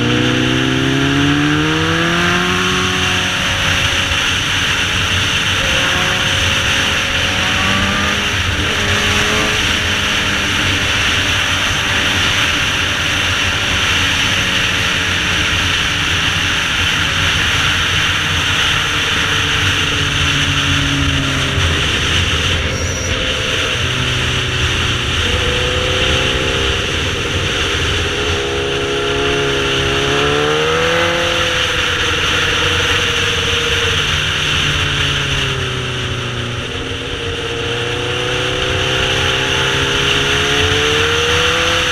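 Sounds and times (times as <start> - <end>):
motorcycle engine revving: 0.0 - 41.9
wind noise: 0.0 - 41.9.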